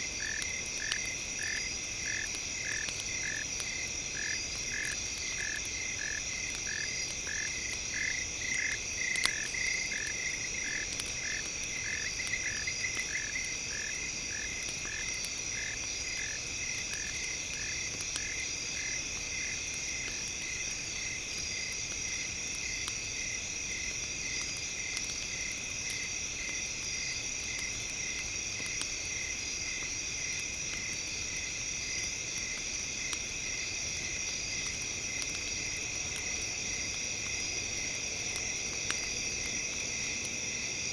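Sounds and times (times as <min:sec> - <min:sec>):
wood crackling and popping: 0:00.1 - 0:40.4.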